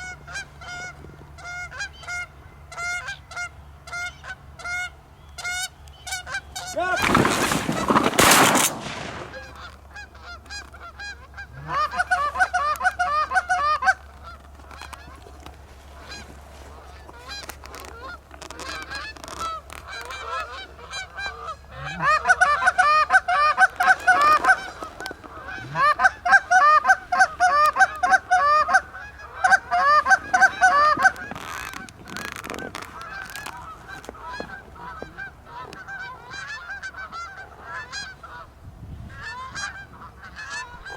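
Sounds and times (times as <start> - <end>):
geese honking: 0.0 - 40.9.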